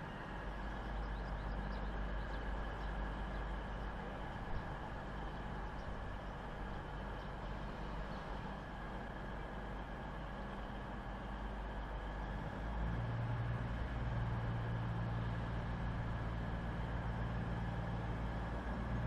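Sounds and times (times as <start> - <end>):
train diesel engines idling: 0.0 - 19.0.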